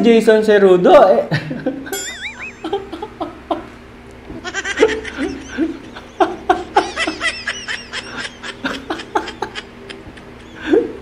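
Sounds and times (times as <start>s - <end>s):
man laughing held-in: 1.4s - 3.7s, 4.4s - 11.0s.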